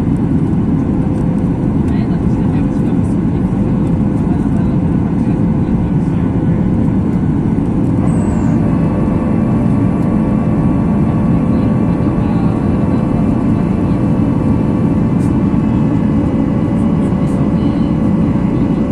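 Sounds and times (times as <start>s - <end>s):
airplane cabin roar: 0.0s - 18.9s
faint humming tones: 0.0s - 18.9s.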